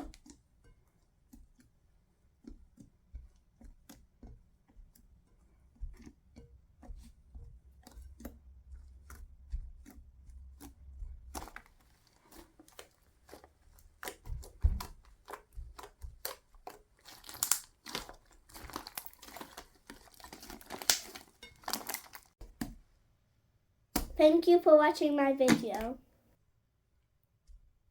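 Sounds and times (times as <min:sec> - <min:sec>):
hands handling things: 0:00.0 - 0:22.8.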